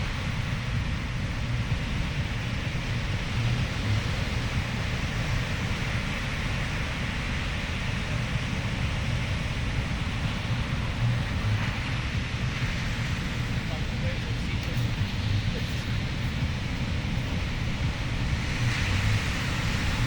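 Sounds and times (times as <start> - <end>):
low rumble: 0.0 - 20.0
ocean surf: 0.0 - 20.0
wind on microphone: 0.0 - 20.0.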